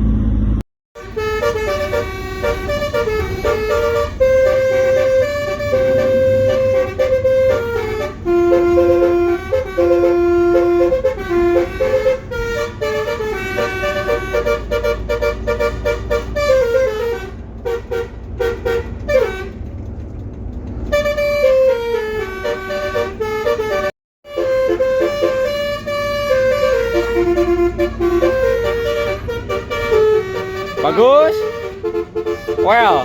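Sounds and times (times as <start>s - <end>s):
bus engine rumble: 0.0s - 33.0s
multi-tone bus horn tune: 0.9s - 33.0s.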